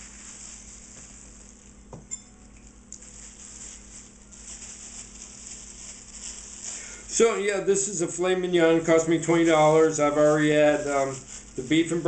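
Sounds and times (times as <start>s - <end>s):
plastic bags crinkling: 0.0s - 1.9s, 2.6s - 12.0s.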